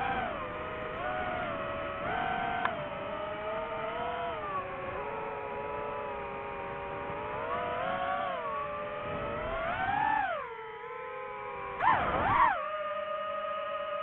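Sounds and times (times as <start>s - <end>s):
drone motors and propellers whining: 0.0s - 14.0s.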